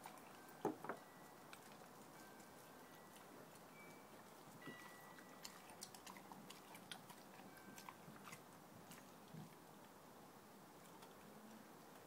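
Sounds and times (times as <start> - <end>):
dog chewing on bone: 0.0 - 10.0.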